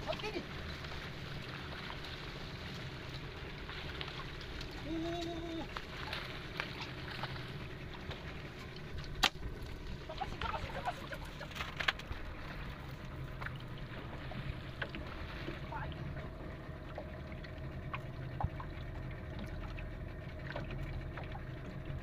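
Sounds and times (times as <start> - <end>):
boat engine rumble: 0.0 - 22.0
water noise: 0.0 - 22.0
wind: 0.0 - 22.0.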